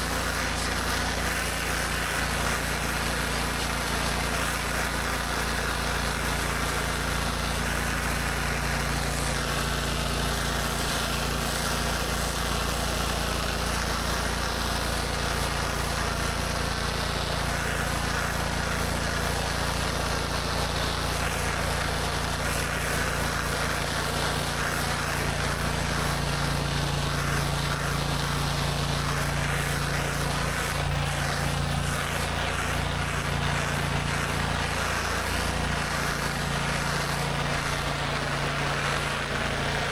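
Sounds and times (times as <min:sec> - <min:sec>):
pressure washer engine running: 0:00.0 - 0:39.9
water spraying on concrete: 0:00.0 - 0:39.9.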